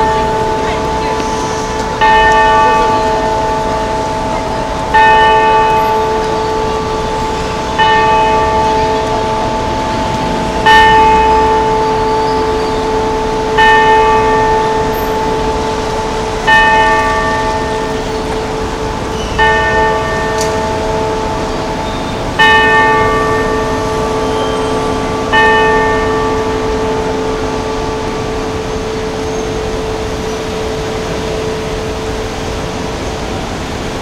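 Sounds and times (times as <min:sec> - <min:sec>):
clock tower bell striking: 0:00.0 - 0:34.0.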